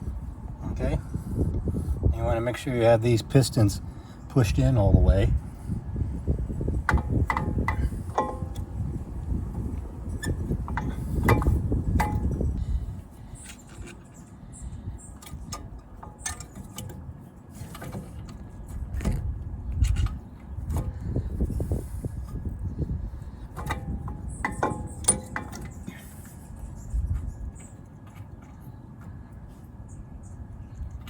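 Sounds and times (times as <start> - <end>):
low rumbling handling noise: 4.6 - 31.0.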